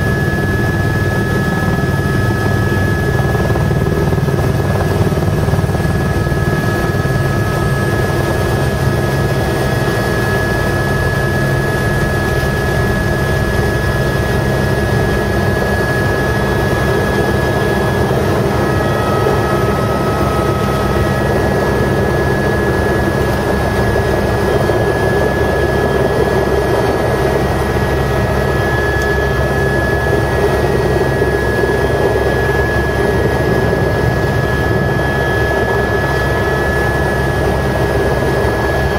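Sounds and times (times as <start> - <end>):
high whine: 0.0 - 37.0
helicopter cabin drone: 0.0 - 38.9.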